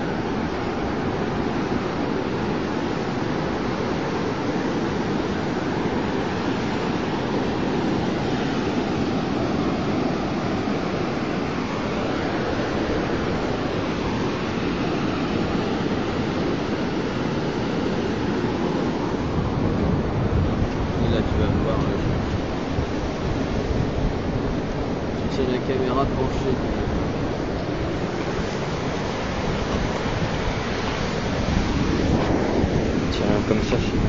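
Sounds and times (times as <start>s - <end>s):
sea surf breaking: 0.0s - 34.0s
wind: 0.0s - 34.0s.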